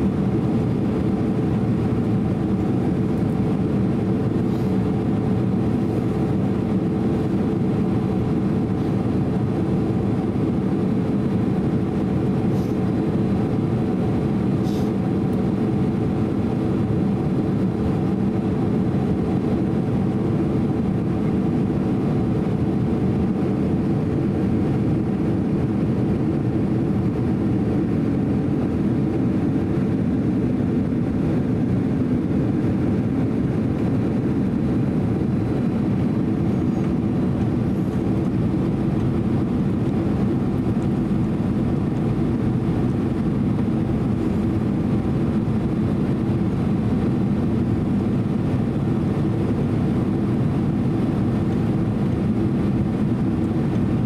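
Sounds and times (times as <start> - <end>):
airliner cabin noise: 0.0 - 54.0.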